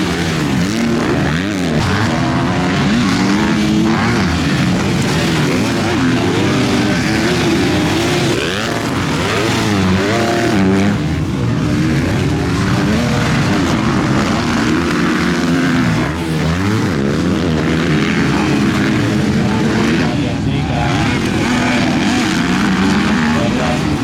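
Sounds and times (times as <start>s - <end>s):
motocross bikes racing at high revs: 0.0s - 24.0s.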